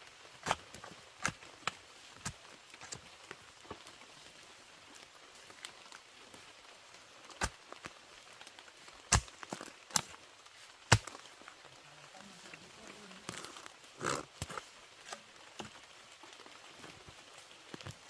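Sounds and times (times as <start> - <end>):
low background hiss: 0.8 - 17.8.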